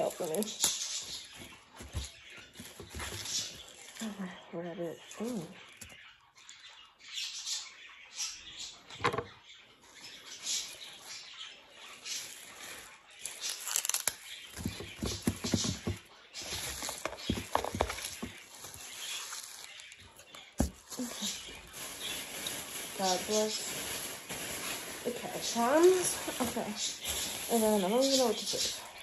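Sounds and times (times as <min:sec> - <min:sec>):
leafy greens rustling and tearing: 0:00.0 - 0:06.6, 0:09.9 - 0:29.0.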